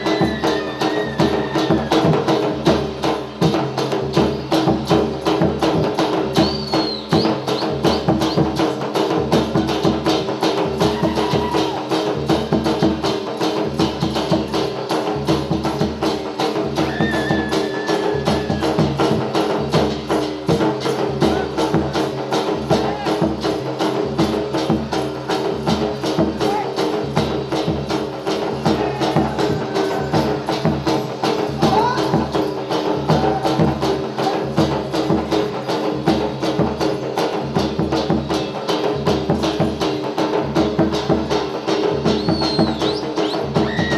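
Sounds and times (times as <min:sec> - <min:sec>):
folk dance percussion beat: 0:00.0 - 0:43.9.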